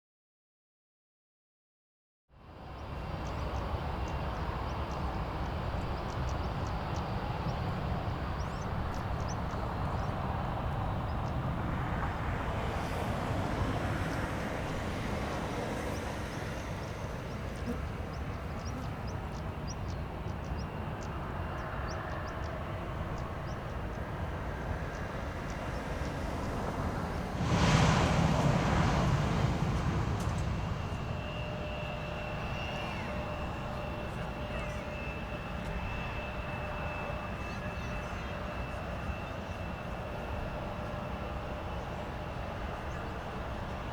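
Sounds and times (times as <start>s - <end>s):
distant jet engine rumble: 2.6s - 43.9s.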